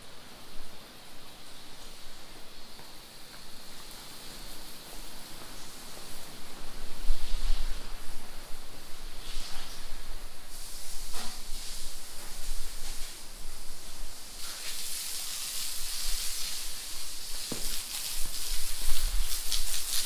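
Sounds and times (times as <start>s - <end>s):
floor cleaning hiss: 0.0s - 20.0s.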